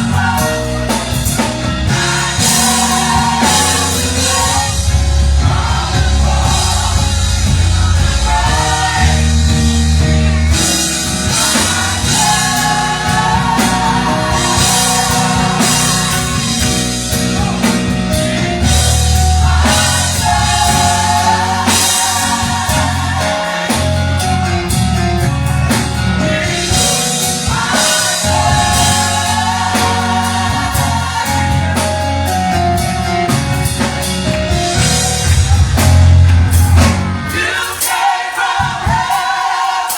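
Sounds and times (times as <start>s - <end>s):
gospel choir singing: 0.0s - 39.9s
live band bass and drums: 0.0s - 39.9s.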